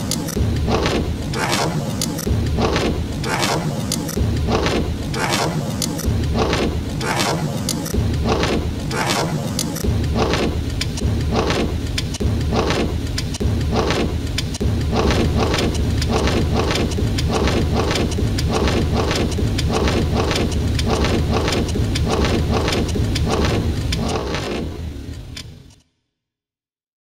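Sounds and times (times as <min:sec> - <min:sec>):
windshield wiper strokes: 0:00.1 - 0:24.7.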